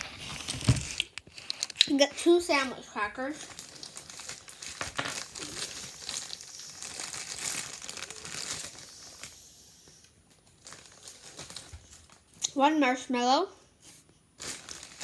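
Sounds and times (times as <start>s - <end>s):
plastic packaging crinkling: 0.0s - 9.5s, 10.4s - 12.4s, 14.4s - 15.0s.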